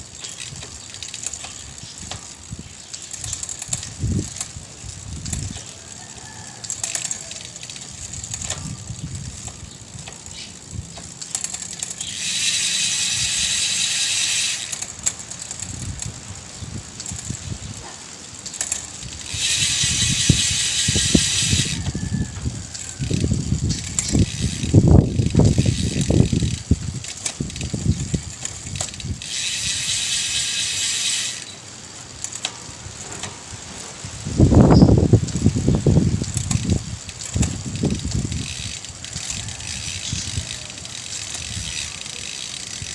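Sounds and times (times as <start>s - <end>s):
bicycle freewheel ticking: 0.0s - 42.9s.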